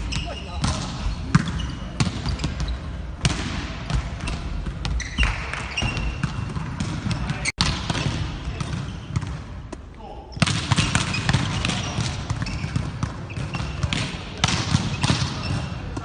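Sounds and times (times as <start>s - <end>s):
volleyballs struck and bouncing: 0.0s - 16.0s.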